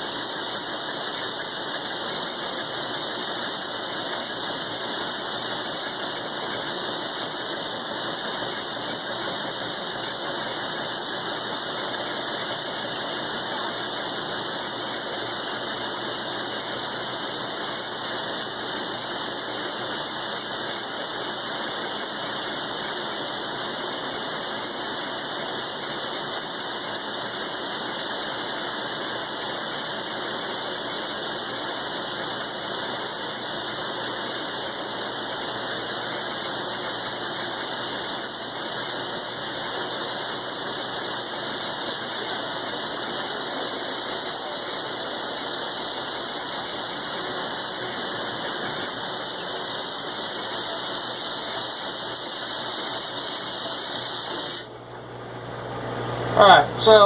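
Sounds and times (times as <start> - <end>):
milling machine cutting steel: 0.0 - 54.8.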